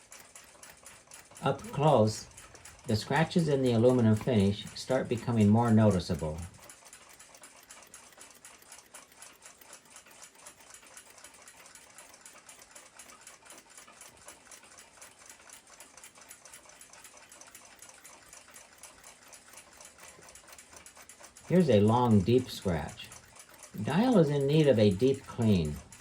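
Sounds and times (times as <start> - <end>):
fast clock ticking: 0.0 - 26.0.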